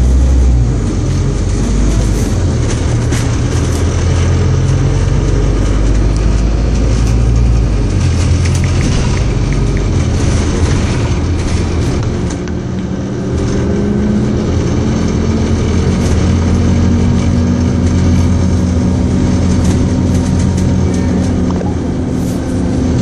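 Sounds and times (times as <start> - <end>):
bus engine: 0.0 - 23.0
road noise: 0.0 - 23.0.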